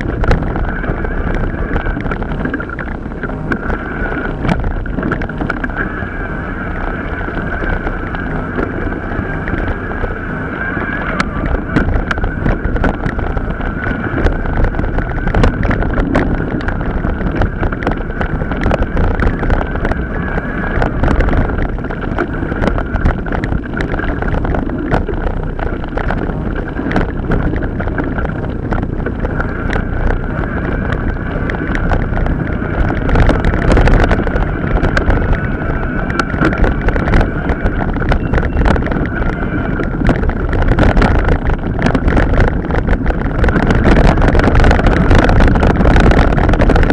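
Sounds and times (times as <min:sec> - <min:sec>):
bike rattling and knocking: 0:00.0 - 0:03.8, 0:04.4 - 0:05.9, 0:10.7 - 0:46.9
steady whine: 0:00.0 - 0:46.9
wind buffeting microphone: 0:00.0 - 0:46.9.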